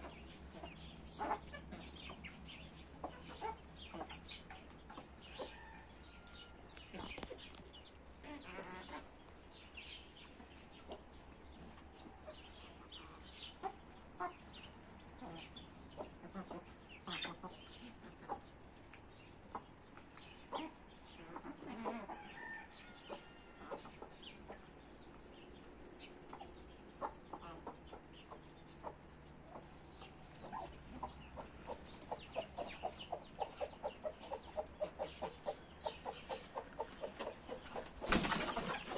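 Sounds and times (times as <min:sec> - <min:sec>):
chickens clucking: 0:00.0 - 0:38.9
chickens pecking and scratching: 0:00.0 - 0:38.9.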